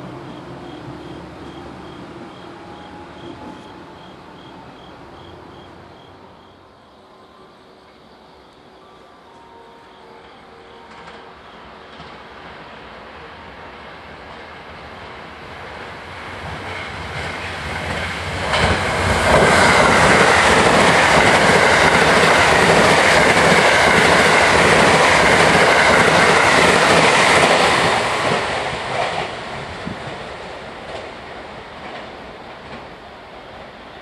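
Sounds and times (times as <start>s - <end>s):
electric train passing at speed: 0.0s - 34.0s.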